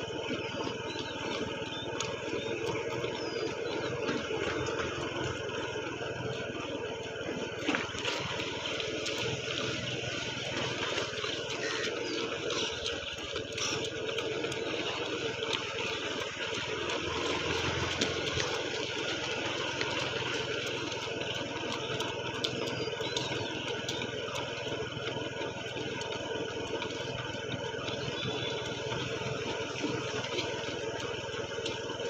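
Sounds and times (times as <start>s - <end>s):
road noise: 0.0s - 32.0s
vehicle engine hum: 0.0s - 32.0s.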